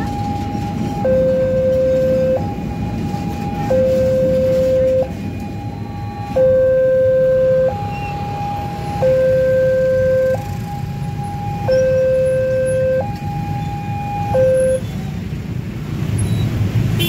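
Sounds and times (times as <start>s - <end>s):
two-tone level crossing alarm: 0.2s - 14.8s.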